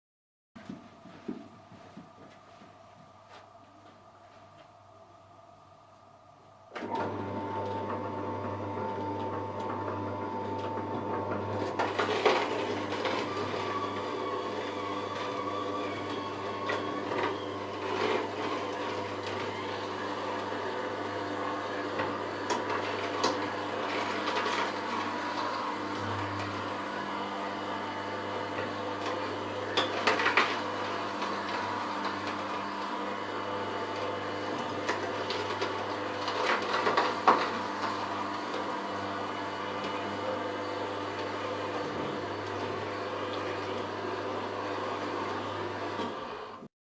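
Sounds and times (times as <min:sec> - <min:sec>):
juicer humming: 0:06.7 - 0:46.7.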